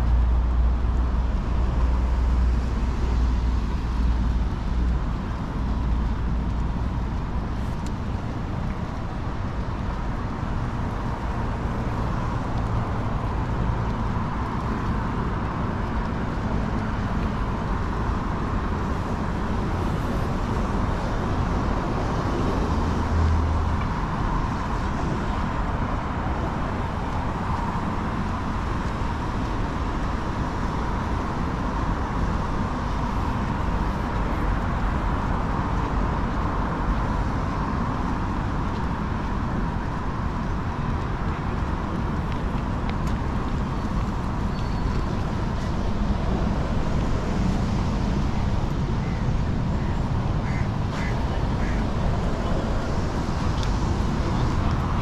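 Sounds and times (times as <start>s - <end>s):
city background noise: 0.0s - 55.0s.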